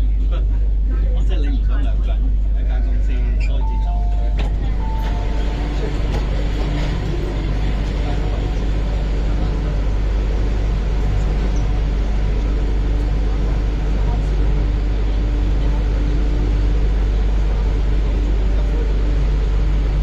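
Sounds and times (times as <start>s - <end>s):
metro train cabin rumble: 0.0s - 20.0s.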